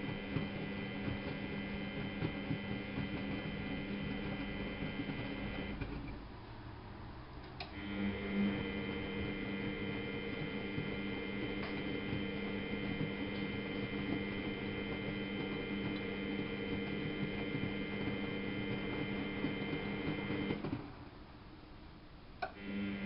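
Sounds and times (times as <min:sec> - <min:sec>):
washing machine motor humming: 0:00.0 - 0:06.3, 0:07.6 - 0:21.2, 0:22.4 - 0:23.0.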